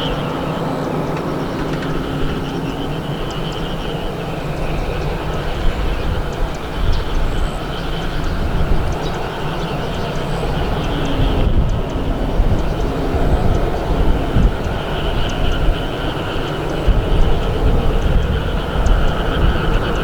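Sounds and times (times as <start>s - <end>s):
engine rumble: 0.0s - 20.0s.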